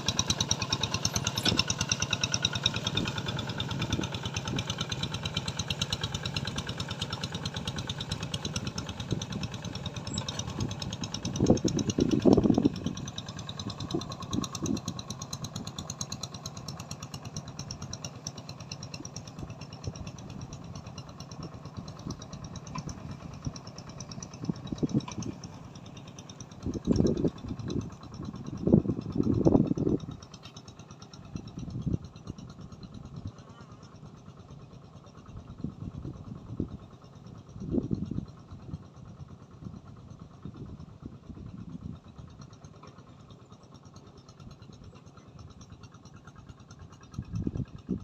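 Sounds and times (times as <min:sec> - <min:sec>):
small engine running: 0:00.0 - 0:48.0.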